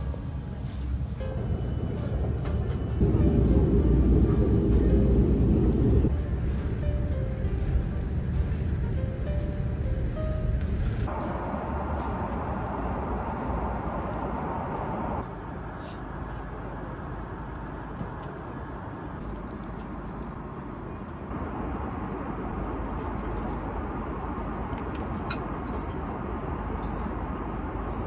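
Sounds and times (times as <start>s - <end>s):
airliner cabin engine drone: 0.0s - 28.0s.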